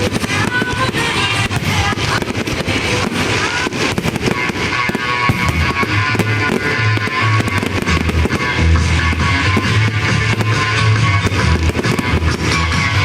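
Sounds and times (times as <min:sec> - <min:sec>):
fireworks bangs and crackles: 0:00.0 - 0:13.0
loud music with guitar: 0:01.6 - 0:13.0.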